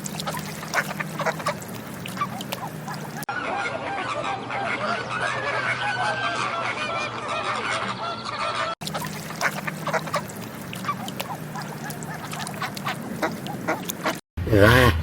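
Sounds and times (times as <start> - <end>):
ducks and geese honking and quacking: 0.0 - 14.2.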